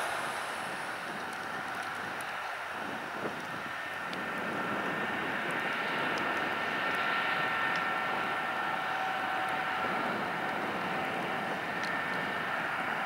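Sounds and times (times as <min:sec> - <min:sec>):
broad rushing noise: 0:00.0 - 0:13.0
jet turbines whining: 0:00.0 - 0:13.0.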